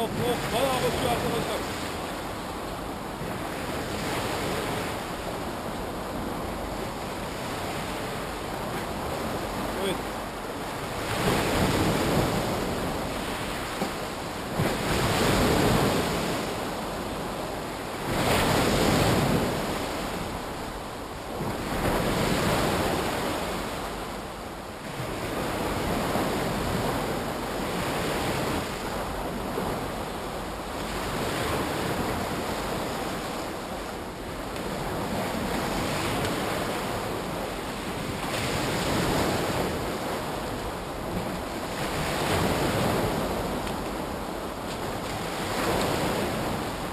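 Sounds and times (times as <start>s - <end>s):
surf breaking on shore: 0.0s - 24.0s, 24.8s - 46.9s.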